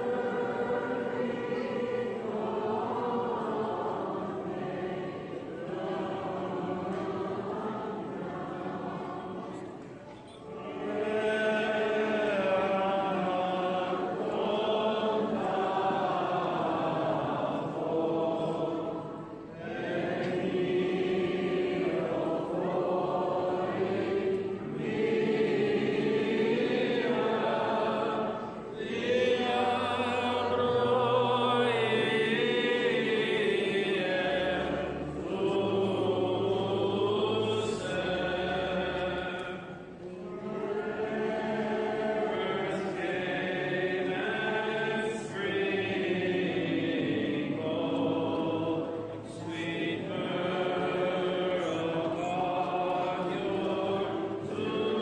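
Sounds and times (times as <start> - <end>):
voices chanting a hymn: 0.0 - 55.0.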